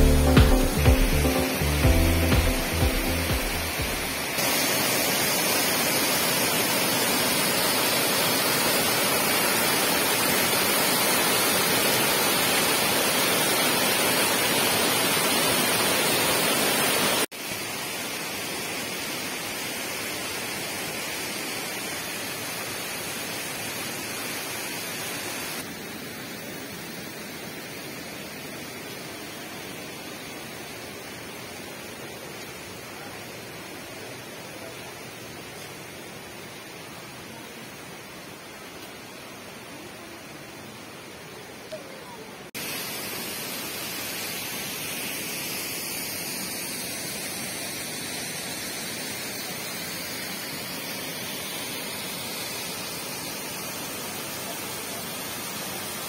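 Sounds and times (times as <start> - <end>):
waterfall rushing: 0.0 - 25.8, 27.6 - 56.0.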